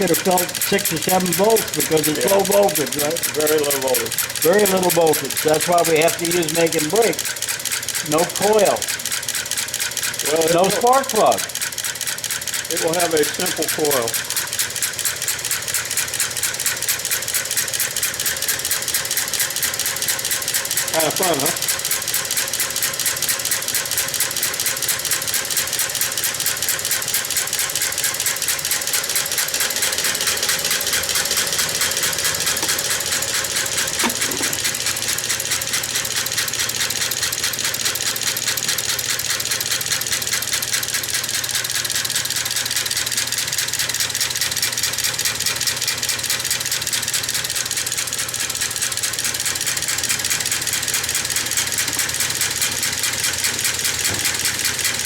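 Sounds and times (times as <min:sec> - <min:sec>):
engine valve gear clattering: 0:00.0 - 0:55.0.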